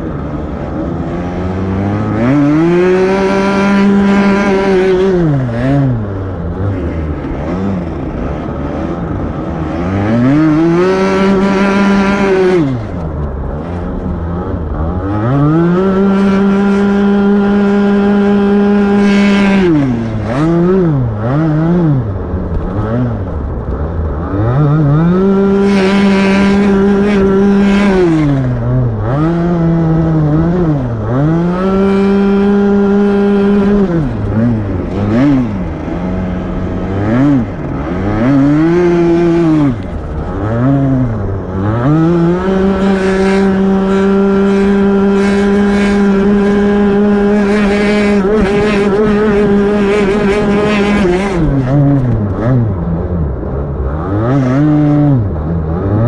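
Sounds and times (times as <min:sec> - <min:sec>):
kart engine at full throttle: 0:00.0 - 0:56.0.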